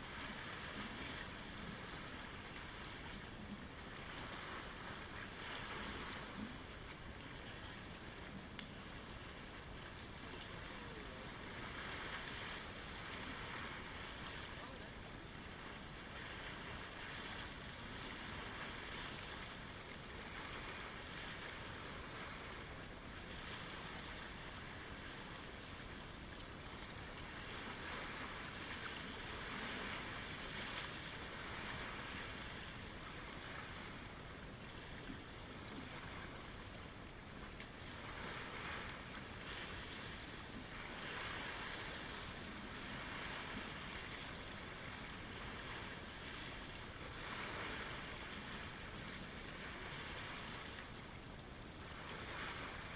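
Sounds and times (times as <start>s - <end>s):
lake waves lapping: 0.0s - 52.9s.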